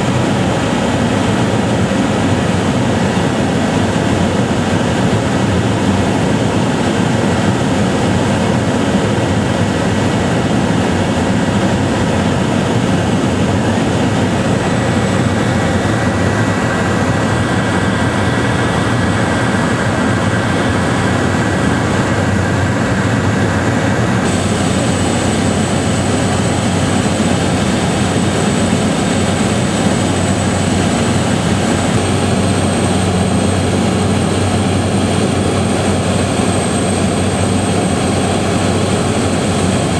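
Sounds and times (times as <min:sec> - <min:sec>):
faint steady whines: 0:00.0 - 0:39.9
loud engine drone: 0:00.0 - 0:39.9.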